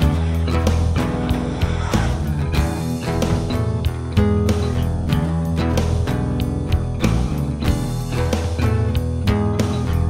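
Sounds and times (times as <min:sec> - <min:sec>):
guitar-led rock backing track: 0:00.0 - 0:10.0.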